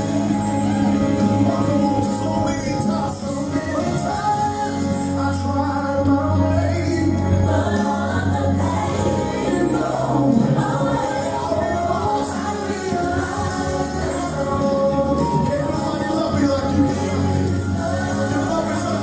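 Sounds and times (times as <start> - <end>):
group singing gospel: 0.0 - 19.0
steady bass line: 0.0 - 19.0.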